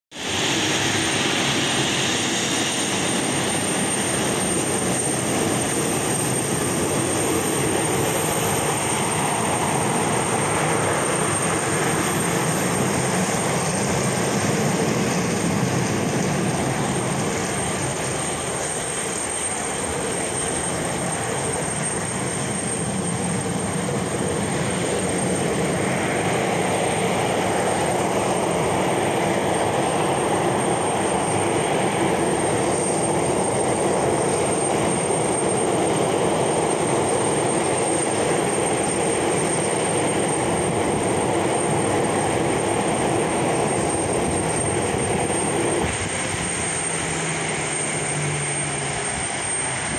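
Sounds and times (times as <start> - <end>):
jet engines running: 0.1 - 49.9.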